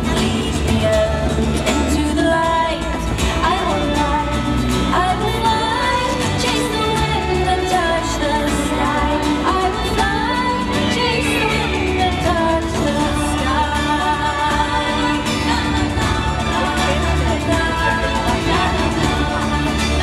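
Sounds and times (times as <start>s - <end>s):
music over loudspeakers: 0.0s - 20.0s
person singing: 0.0s - 20.0s.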